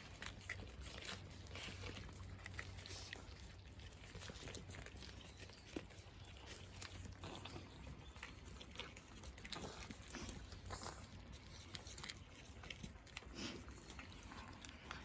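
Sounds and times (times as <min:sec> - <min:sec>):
cats crunching dry food: 0:00.0 - 0:15.0.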